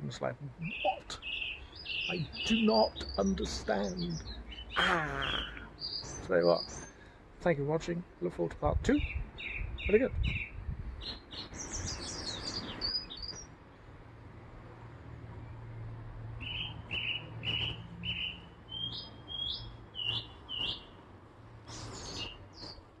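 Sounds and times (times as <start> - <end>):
garden birds chirping: 0.0 - 23.0.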